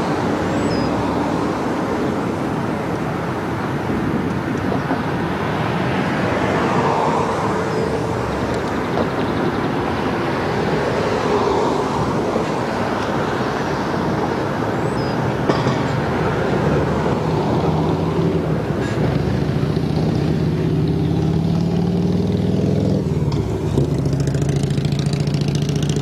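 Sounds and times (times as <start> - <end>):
passing vehicle rumble: 0.0 - 26.0.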